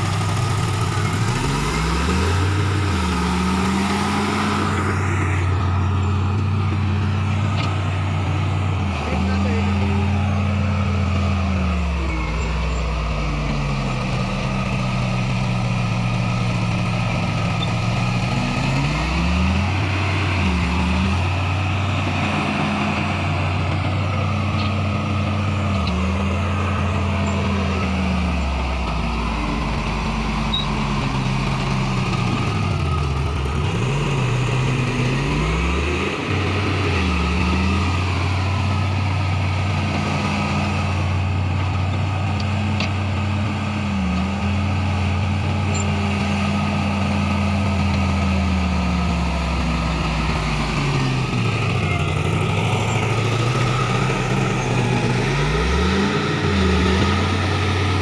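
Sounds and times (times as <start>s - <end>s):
bulldozer diesel engine running hard: 0.0s - 58.0s.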